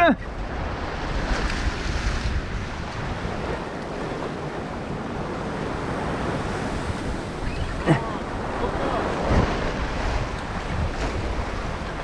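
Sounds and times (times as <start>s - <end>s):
wind rumbling on microphone: 0.2s - 12.0s
sea swell washing against rocks: 0.6s - 12.0s.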